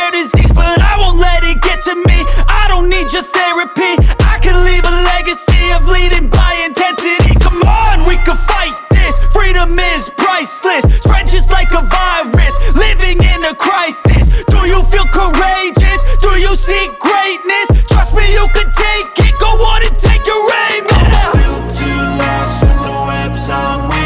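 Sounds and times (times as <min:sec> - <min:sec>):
hip hop music: 0:00.0 - 0:24.0.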